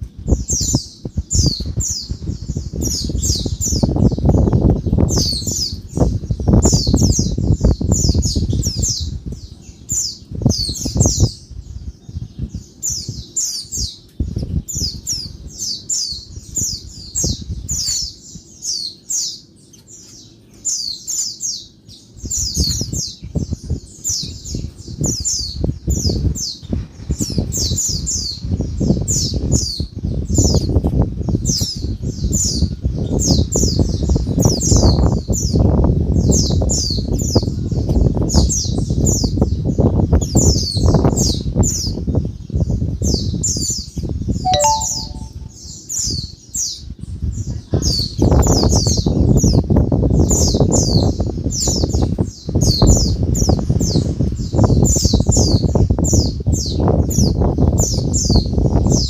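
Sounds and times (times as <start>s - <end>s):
birds chattering high chirps: 0.0s - 59.0s.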